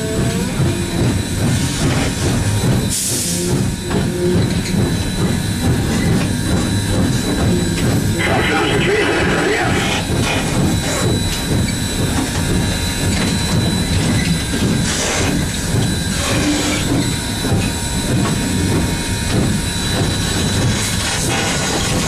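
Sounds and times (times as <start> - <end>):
steam locomotive running: 0.0 - 22.0.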